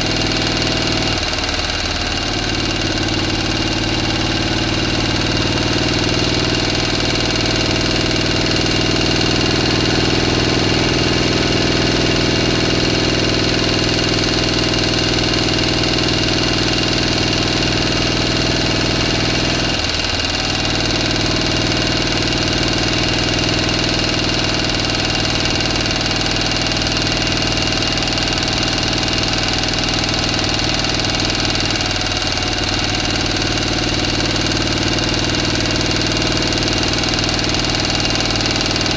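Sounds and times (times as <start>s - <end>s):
motor running steadily: 0.0s - 38.9s.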